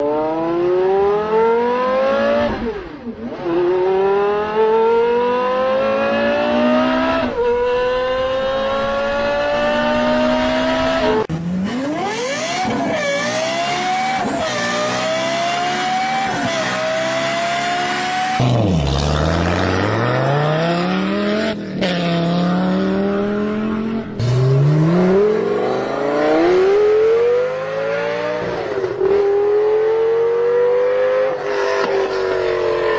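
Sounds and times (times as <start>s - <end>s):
sports car engine accelerating: 0.0s - 32.9s.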